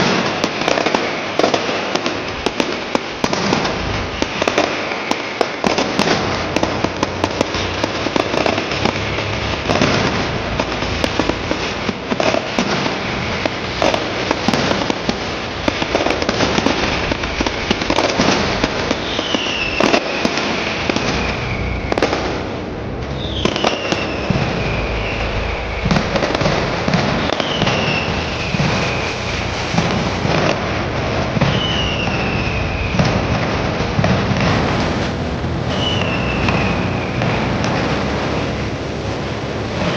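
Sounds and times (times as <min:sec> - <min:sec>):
falling firework whistle: 0:00.0 - 0:38.8
firecrackers banging: 0:00.0 - 0:39.9.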